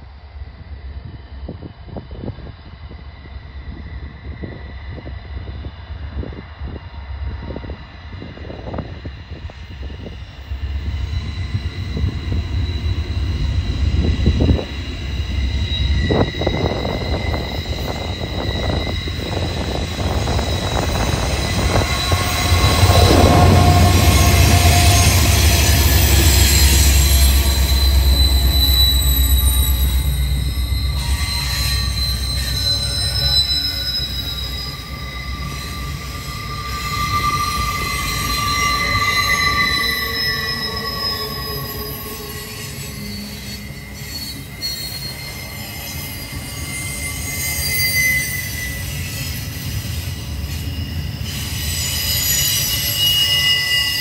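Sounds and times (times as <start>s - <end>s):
freight train rumble: 0.0s - 54.0s
wheel flanges squealing: 9.8s - 54.0s.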